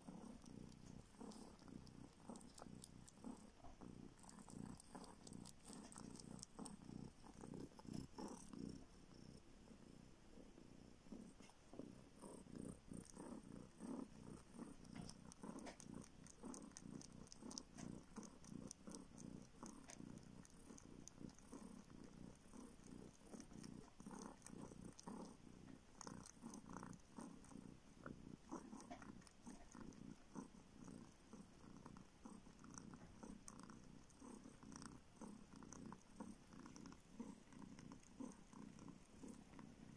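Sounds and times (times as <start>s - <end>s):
soft suckling clicks: 0.0s - 8.9s, 12.2s - 39.7s
kitten purring: 0.0s - 39.9s.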